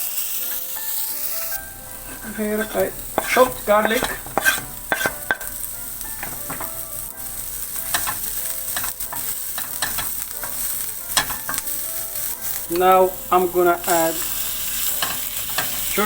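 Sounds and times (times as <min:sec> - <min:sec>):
onion sizzling in frying pan: 0:00.0 - 0:16.0
utensil clicking against pan: 0:02.0 - 0:13.0, 0:13.8 - 0:16.0.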